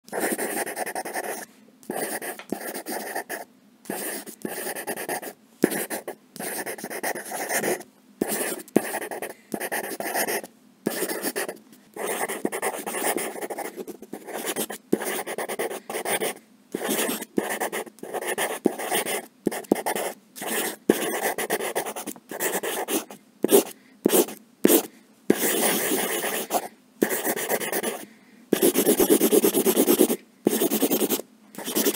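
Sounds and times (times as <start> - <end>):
pencil writing on paper: 0.1 - 31.9.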